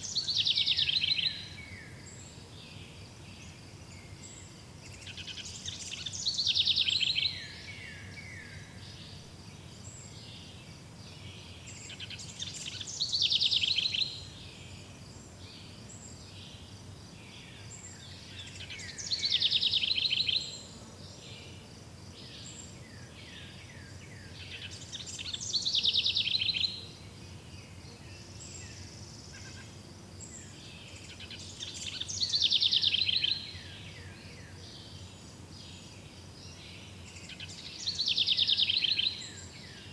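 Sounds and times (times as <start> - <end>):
songbird trilled song: 0.0 - 20.7, 22.2 - 39.9
low steady hiss: 0.0 - 39.9.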